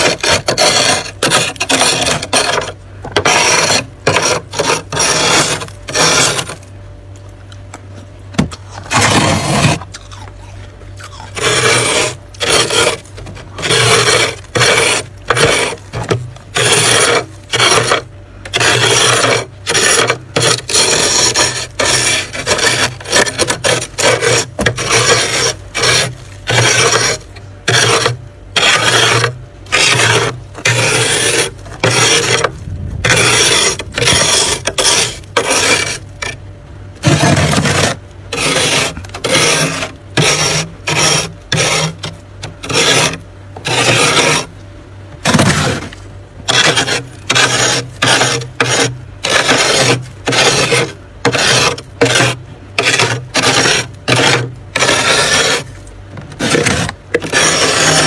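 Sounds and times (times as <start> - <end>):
spoon scraping frost: 0.0 - 6.7, 8.6 - 36.4, 37.0 - 44.5, 45.3 - 58.0.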